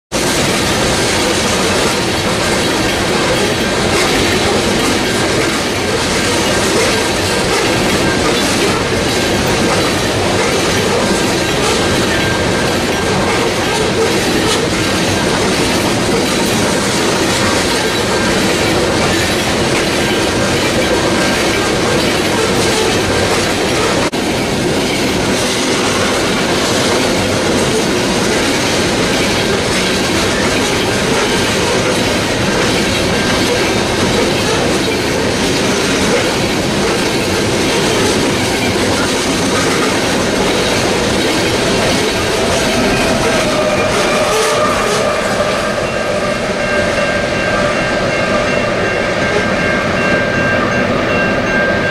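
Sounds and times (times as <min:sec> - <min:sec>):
freight train wheels clattering: 0:00.1 - 0:51.9.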